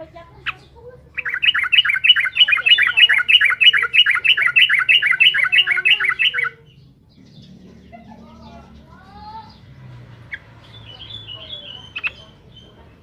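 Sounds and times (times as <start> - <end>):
bulbul chattering song: 0.0 - 13.0.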